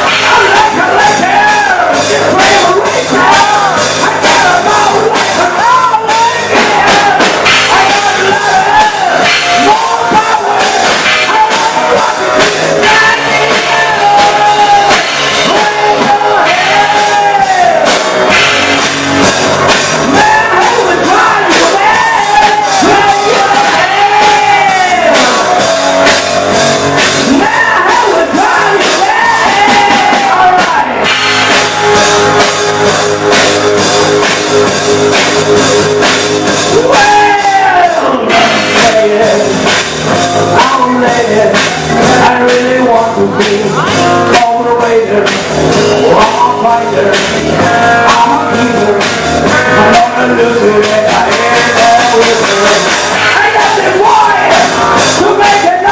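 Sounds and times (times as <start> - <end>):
rock music: 0.0 - 55.9.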